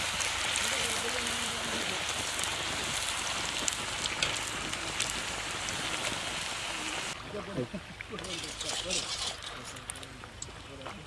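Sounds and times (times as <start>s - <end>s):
oil sizzling with crackles: 0.0s - 11.0s.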